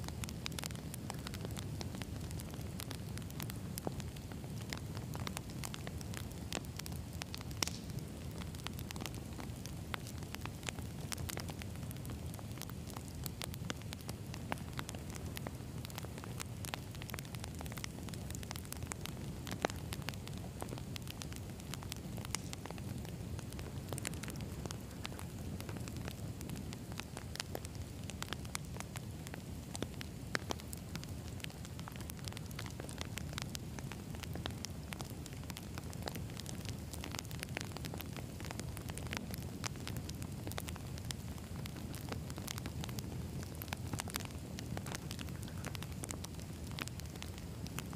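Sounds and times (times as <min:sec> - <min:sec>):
logs crackling and popping: 0:00.0 - 0:47.9
campfire flames rushing: 0:00.1 - 0:47.9.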